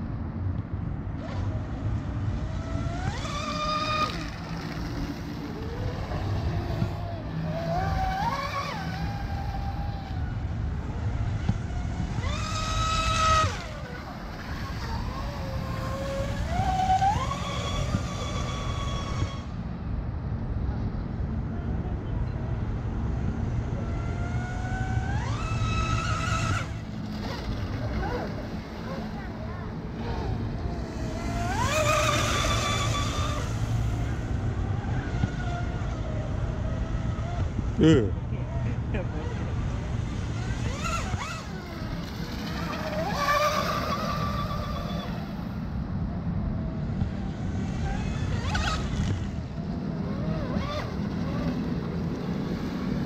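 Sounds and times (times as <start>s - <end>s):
electric motor and propeller whine: 0.0s - 53.0s.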